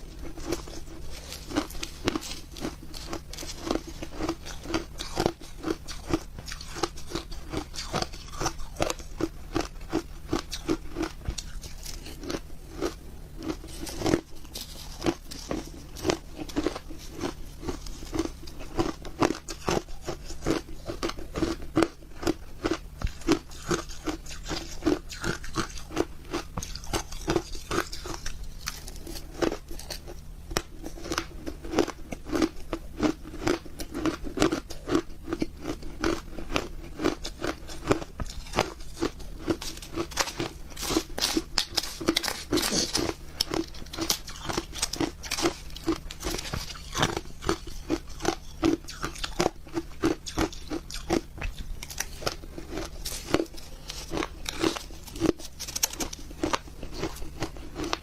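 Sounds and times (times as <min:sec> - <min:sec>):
ice crunching in mouth: 0:00.0 - 0:58.0.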